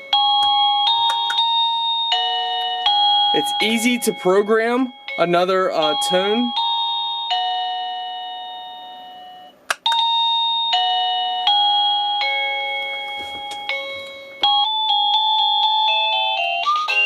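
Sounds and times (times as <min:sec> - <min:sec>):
electronic doorbell chime tunes: 0:00.0 - 0:17.0.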